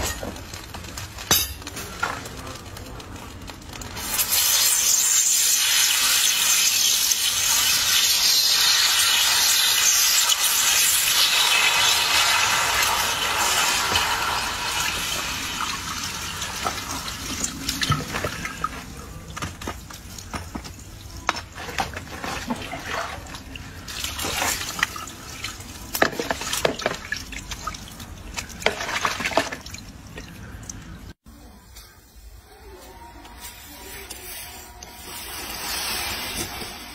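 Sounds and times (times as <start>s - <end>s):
pops and drips: 0.0s - 31.1s
water hissing on hot metal: 0.0s - 31.1s, 32.6s - 36.9s.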